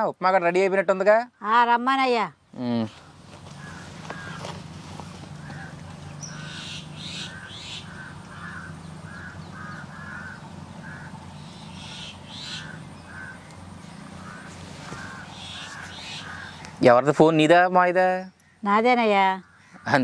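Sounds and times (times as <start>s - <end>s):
birds harsh calls: 2.6s - 20.0s.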